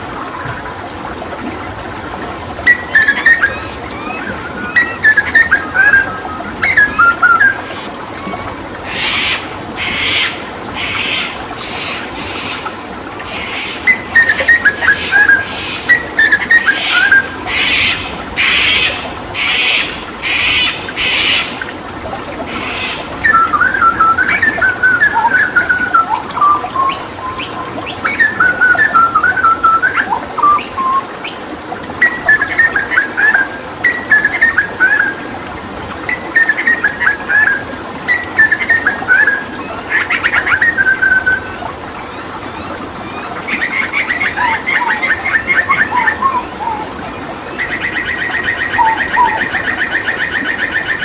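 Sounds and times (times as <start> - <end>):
running water: 0.0 - 51.0.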